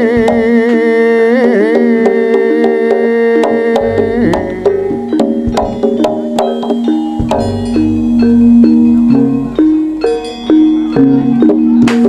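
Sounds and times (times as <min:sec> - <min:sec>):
gamelan melody: 0:01.4 - 0:12.0
sharp drum strokes: 0:01.8 - 0:12.0.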